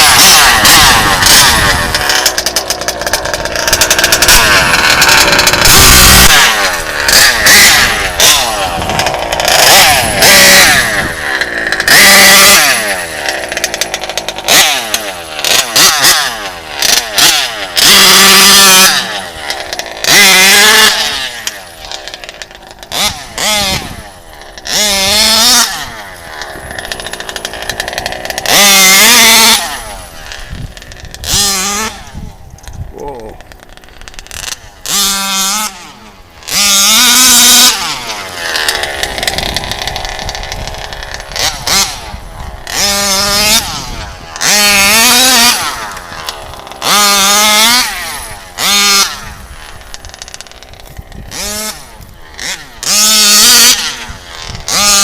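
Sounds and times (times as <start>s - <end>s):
rc truck engine revving: 0.0s - 55.0s.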